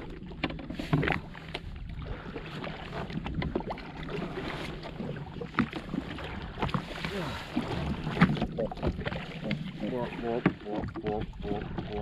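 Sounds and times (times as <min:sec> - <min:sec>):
knocks and splashes: 0:00.0 - 0:12.0
water slapping against hull: 0:00.0 - 0:12.0.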